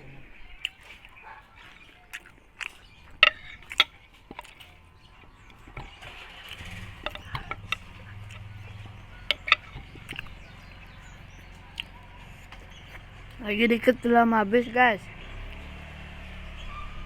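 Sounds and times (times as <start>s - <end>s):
eating clicks and clacks: 0.5s - 15.9s.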